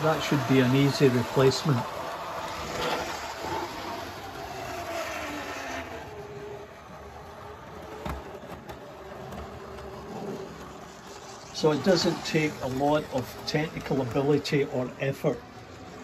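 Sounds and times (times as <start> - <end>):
model train motor whir: 0.0 - 16.0.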